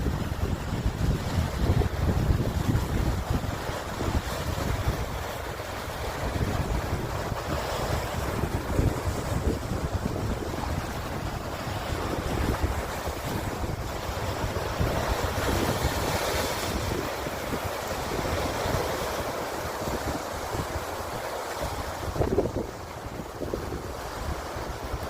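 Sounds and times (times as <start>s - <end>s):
sea waves washing on shore: 0.0s - 25.0s
wind on microphone: 0.0s - 25.0s.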